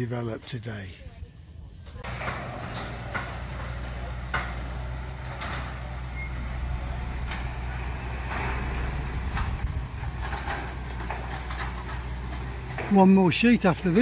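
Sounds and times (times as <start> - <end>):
heavy diesel engine running: 2.0 - 14.0.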